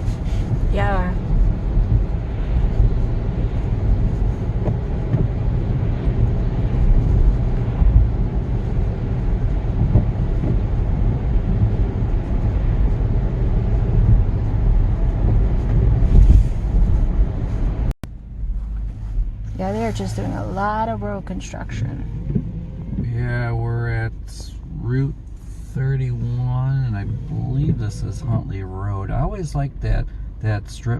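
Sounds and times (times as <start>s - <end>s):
car cabin road rumble: 0.0s - 30.9s.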